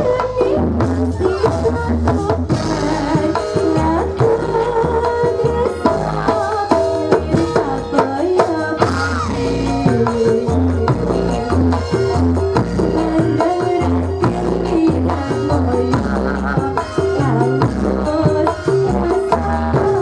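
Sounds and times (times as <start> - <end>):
woman singing into a microphone: 0.0 - 20.0.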